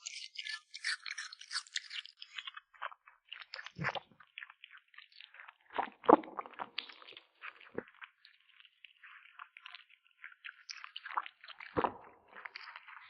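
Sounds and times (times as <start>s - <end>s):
kitten crunching food: 0.0s - 13.0s.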